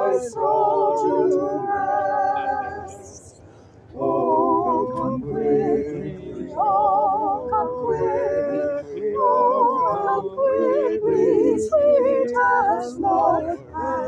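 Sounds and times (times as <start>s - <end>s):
small choir singing a cappella: 0.0s - 14.0s.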